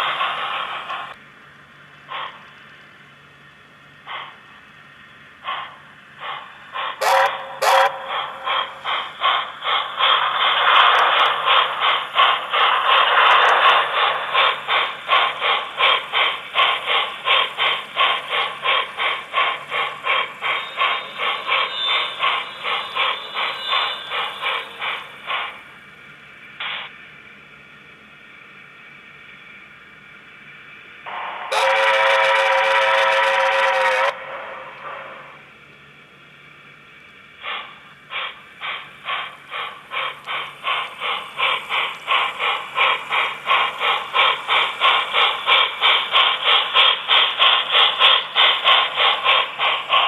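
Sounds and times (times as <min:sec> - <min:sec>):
model steam locomotive chuffs: 0:00.0 - 0:50.0.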